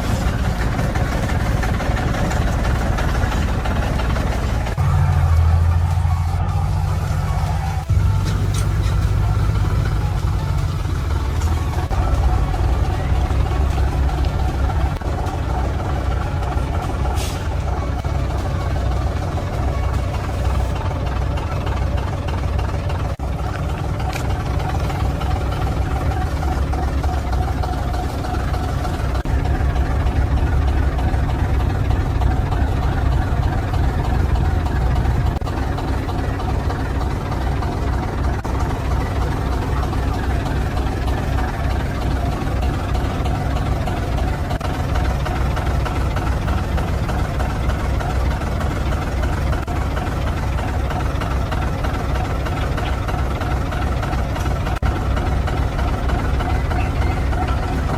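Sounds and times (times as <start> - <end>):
truck diesel engine running: 0.0 - 57.9.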